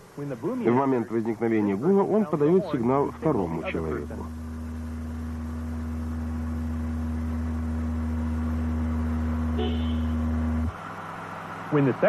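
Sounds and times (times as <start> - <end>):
low driveline drone: 0.7 - 12.0.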